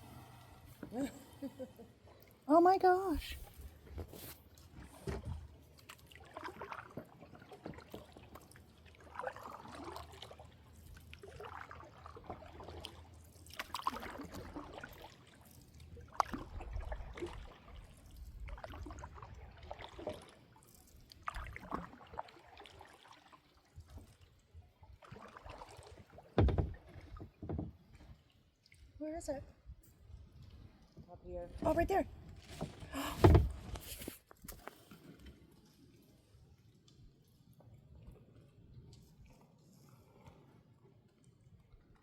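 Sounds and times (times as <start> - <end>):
water splashing and trickling: 0.0 - 42.0.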